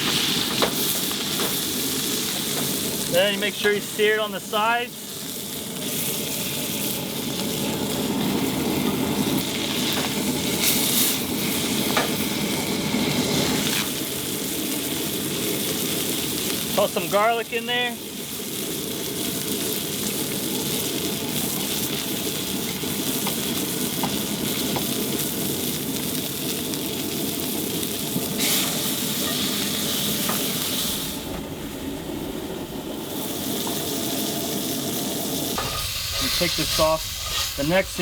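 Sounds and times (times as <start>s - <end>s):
steak sizzling in a pan: 0.0s - 31.4s, 32.2s - 38.0s.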